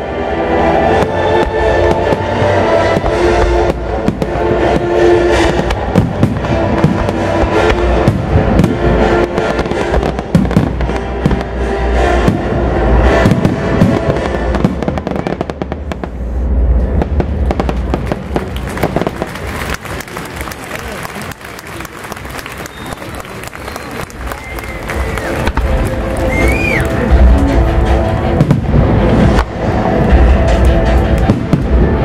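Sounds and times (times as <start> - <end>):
music: 0.0 - 32.0
fireworks bangs and crackles: 0.8 - 32.0.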